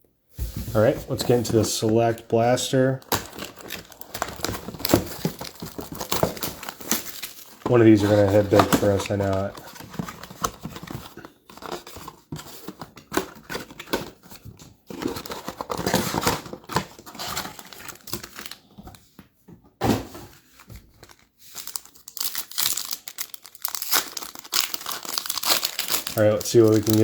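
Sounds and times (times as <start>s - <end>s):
plastic wrappers crinkling: 0.8s - 18.7s, 20.6s - 27.0s.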